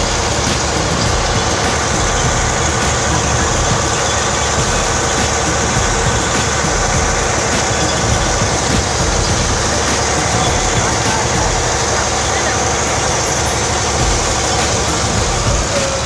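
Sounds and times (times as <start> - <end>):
motor boat engine droning: 0.0 - 16.0
water splashing along hull: 0.0 - 16.0.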